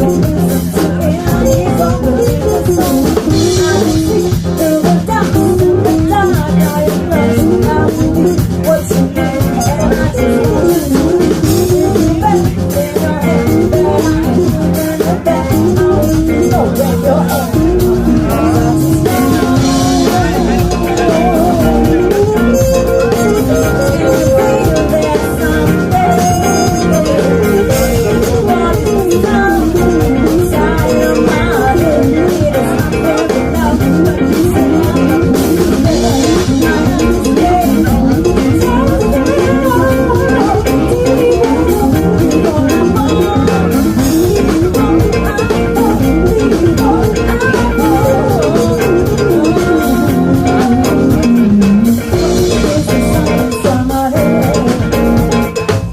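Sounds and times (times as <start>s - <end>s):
band playing with drums: 0.0s - 55.9s
wavering melodic line: 0.1s - 55.9s.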